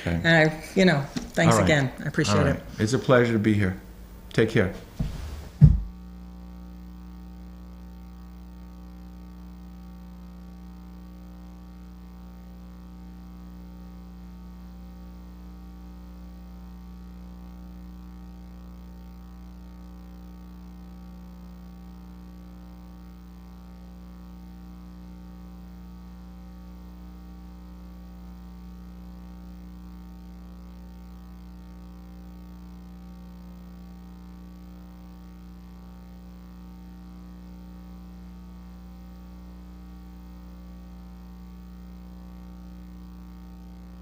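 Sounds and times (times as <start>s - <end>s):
buzzy electrical mains hum: 0.0s - 44.0s.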